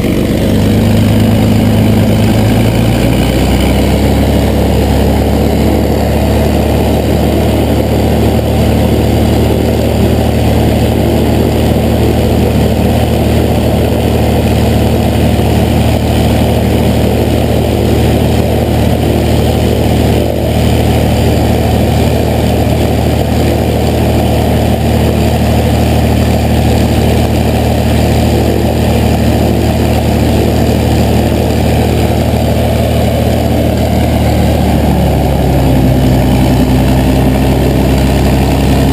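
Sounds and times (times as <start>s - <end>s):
propeller aircraft engine idling: 0.0s - 38.9s.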